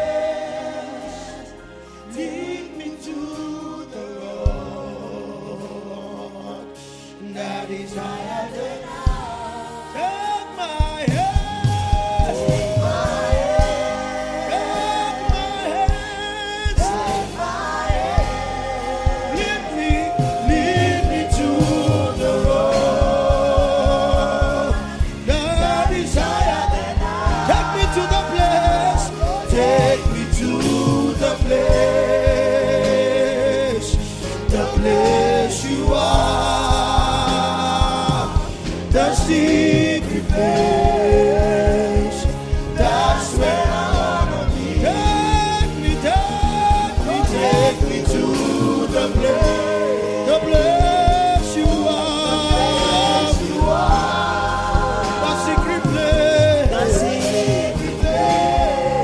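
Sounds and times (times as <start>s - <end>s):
musical accompaniment: 0.0s - 59.0s
person singing with vibrato: 9.1s - 59.0s
regular beat: 10.8s - 59.0s.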